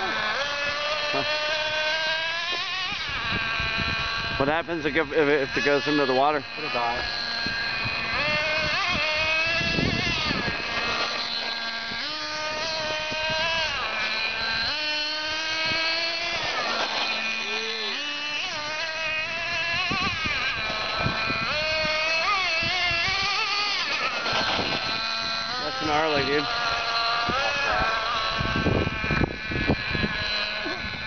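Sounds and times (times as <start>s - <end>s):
toy truck motor revving: 0.0s - 31.0s.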